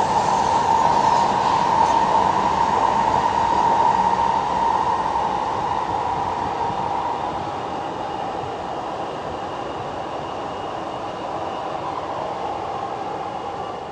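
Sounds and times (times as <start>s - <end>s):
train rushing rumble with whine: 0.0s - 13.9s.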